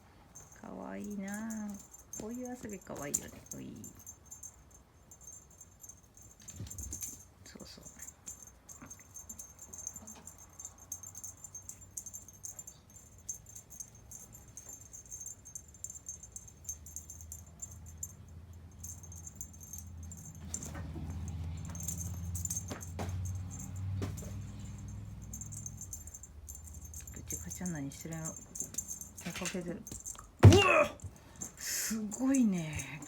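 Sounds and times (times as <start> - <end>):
metallic toy jingling: 0.3 - 33.0.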